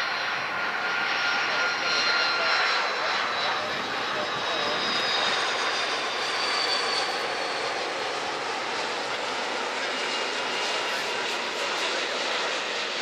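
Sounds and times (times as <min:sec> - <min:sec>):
high-pitched engine whine: 0:00.0 - 0:13.0
jet engines passing overhead: 0:00.0 - 0:13.0.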